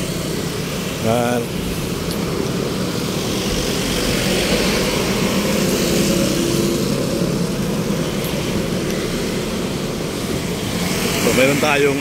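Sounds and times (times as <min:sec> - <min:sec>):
road hiss: 0:00.0 - 0:12.0
vehicle engine humming: 0:00.0 - 0:12.0.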